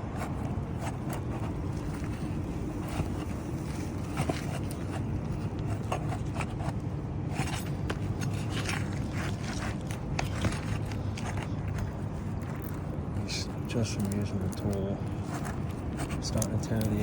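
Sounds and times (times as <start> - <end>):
pry tool scraping shingles: 0.2 - 17.0.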